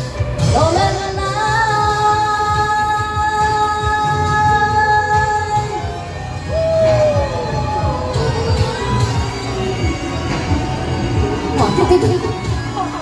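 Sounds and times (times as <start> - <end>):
pop backing track with beat: 0.0 - 13.0.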